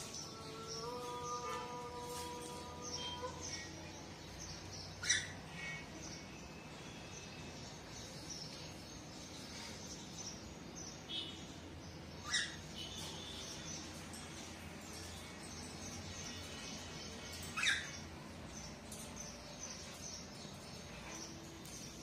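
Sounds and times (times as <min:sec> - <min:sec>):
soft bird chirps: 0:00.0 - 0:22.0.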